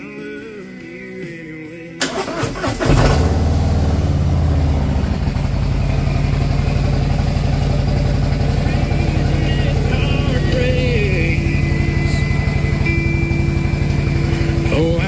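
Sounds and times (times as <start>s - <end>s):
motorcycle electric starter cranking: 2.0s - 4.3s, 5.1s - 15.0s
motorcycle engine idling: 2.1s - 15.0s.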